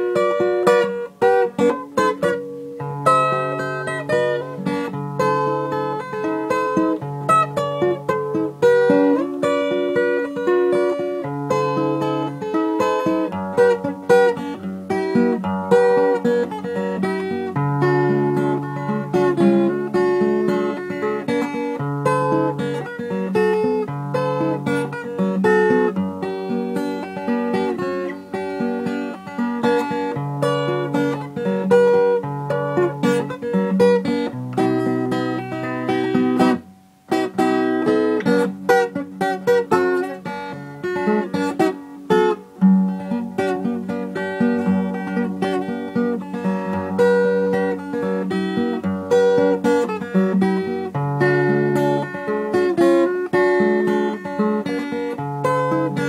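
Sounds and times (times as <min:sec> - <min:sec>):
acoustic guitar melody: 0:00.0 - 0:56.0.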